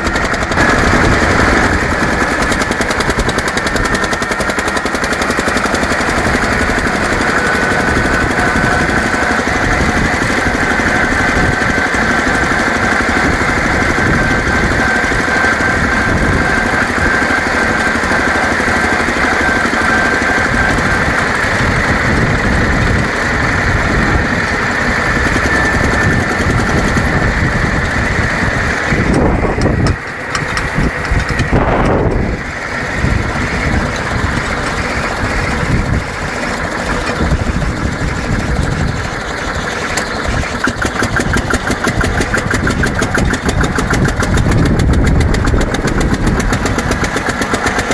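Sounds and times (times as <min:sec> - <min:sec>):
diesel tractor engine running: 0:00.0 - 0:47.9.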